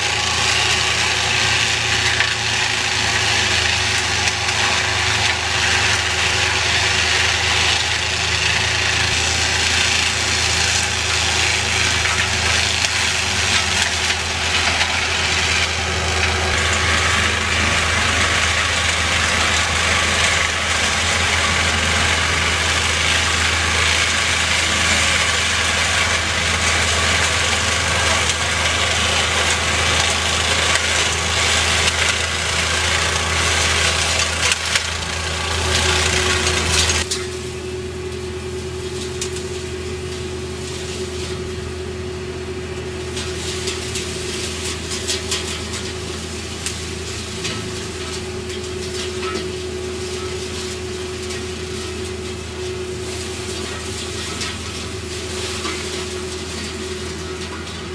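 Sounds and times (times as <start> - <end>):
excavator engine and hydraulics: 0.0 - 57.9.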